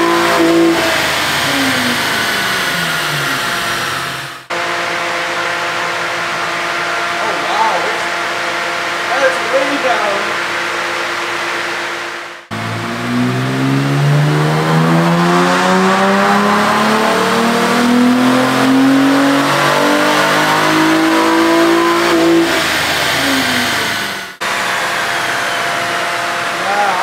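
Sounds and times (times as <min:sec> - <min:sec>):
car engine revving on a dyno: 0:00.0 - 0:27.0.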